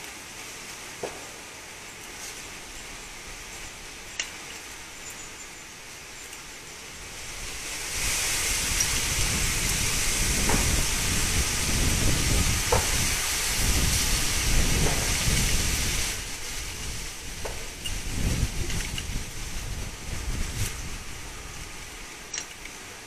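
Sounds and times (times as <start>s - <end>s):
gusting wind buffeting microphone: 1.7s - 23.0s.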